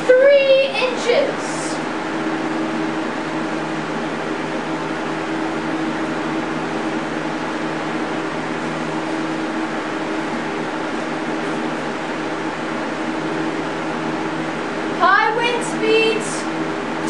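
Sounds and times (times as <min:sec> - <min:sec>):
electric fan rushing air: 0:00.0 - 0:17.0
motor hum: 0:00.0 - 0:17.0.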